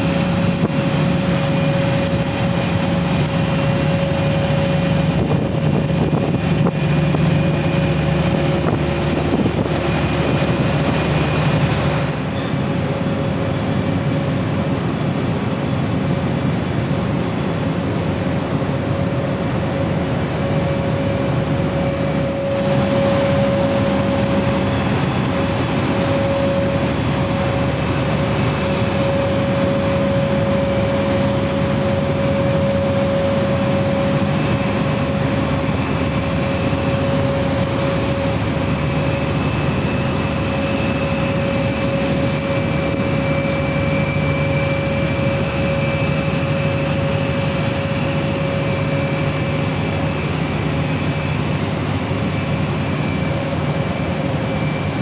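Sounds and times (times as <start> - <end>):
machine drone with whine: 0.0 - 55.0.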